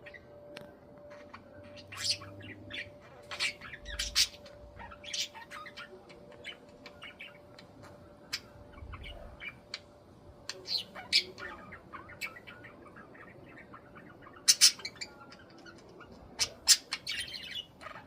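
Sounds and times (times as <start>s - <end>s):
budgies chirping and squawking: 1.1s - 9.8s, 10.5s - 18.0s.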